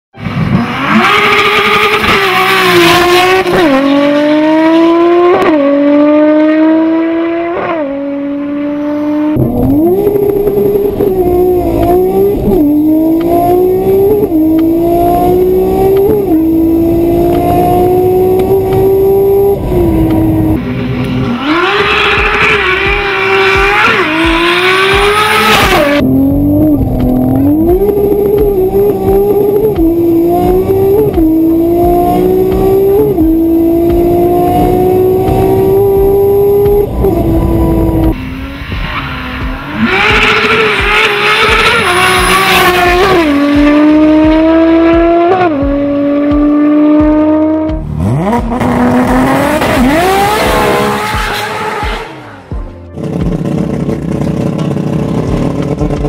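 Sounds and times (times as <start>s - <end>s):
car engine accelerating through gears: 0.2s - 56.0s.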